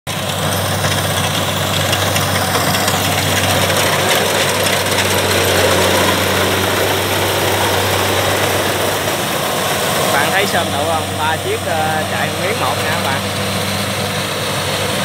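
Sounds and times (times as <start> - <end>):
diesel engine droning: 0.1 - 15.0.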